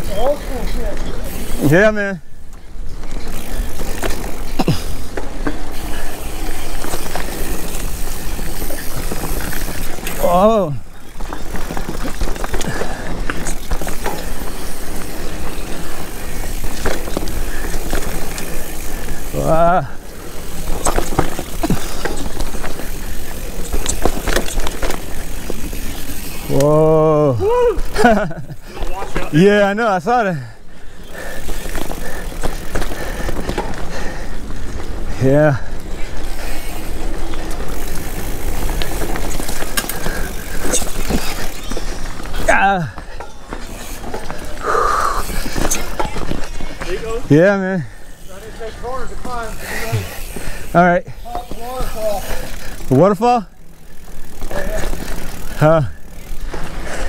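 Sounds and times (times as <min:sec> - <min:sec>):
bike rattling and clicking: 0:00.0 - 0:57.0
bike tyres rolling on dirt: 0:00.0 - 0:57.0.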